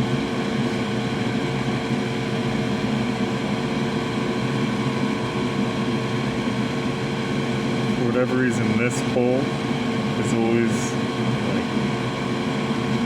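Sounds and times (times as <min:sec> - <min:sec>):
electric fan motor whirring: 0:00.0 - 0:13.0.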